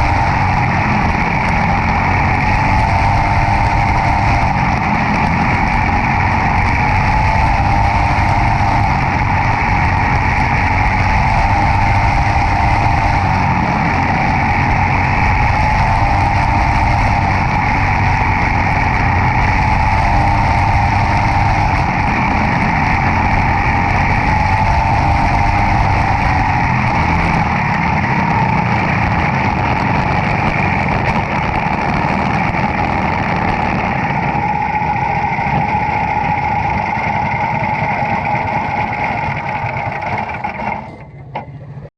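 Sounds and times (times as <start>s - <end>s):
kart engine running: 0.0s - 41.9s.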